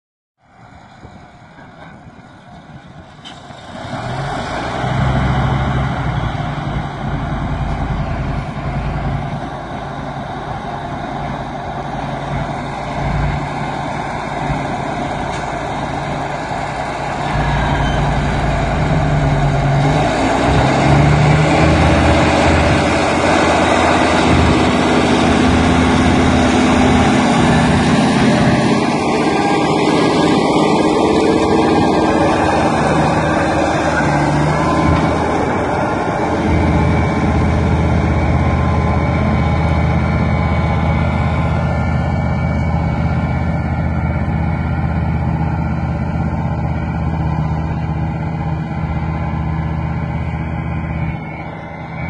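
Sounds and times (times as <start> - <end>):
diesel engine running under load: 0.4 - 52.0.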